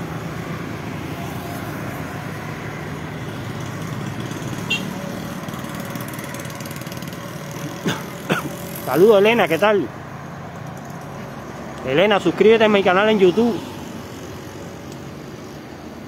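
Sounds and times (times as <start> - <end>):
hum of passing traffic: 0.0 - 16.0.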